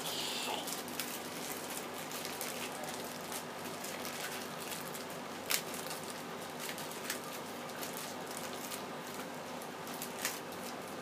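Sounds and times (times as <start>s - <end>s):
packaging rustling and crackling: 0.6s - 11.0s.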